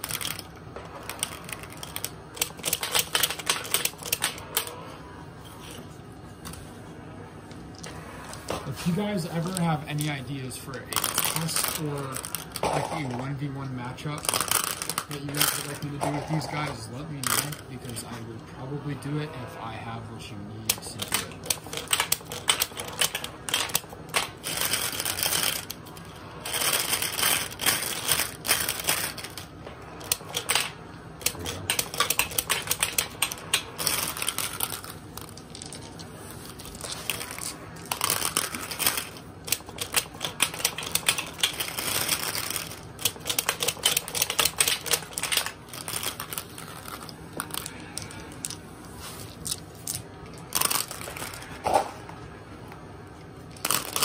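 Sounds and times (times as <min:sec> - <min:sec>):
marbles clattering against plastic: 0:00.0 - 0:04.8, 0:08.8 - 0:18.2, 0:20.7 - 0:48.6, 0:49.3 - 0:51.9, 0:53.5 - 0:54.0.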